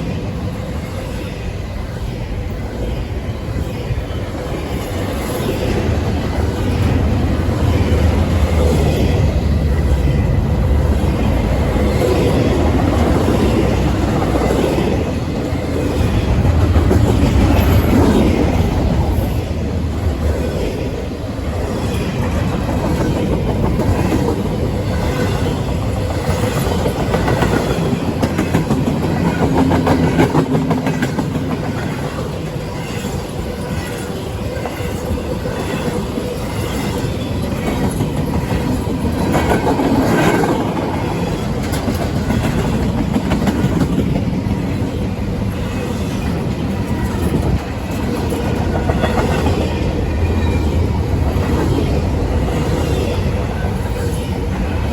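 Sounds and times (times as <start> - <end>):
clickety-clack over rail joints: 0.0 - 54.9
train wheels rumbling on rail: 0.0 - 54.9.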